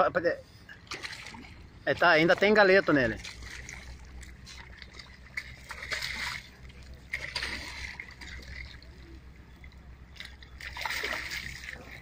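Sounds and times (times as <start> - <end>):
fish splashing against boat hull: 0.8 - 9.2, 10.1 - 12.0.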